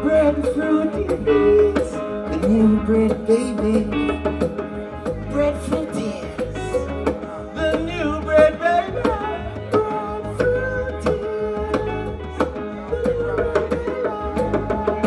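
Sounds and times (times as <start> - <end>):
man singing into a microphone: 0.0 - 4.2, 5.0 - 15.0
bass notes: 0.0 - 15.0.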